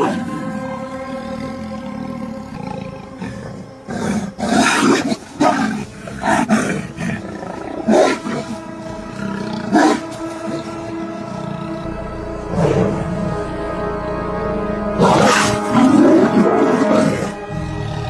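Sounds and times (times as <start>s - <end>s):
animals snarling and growling: 0.0s - 13.9s, 14.8s - 18.0s.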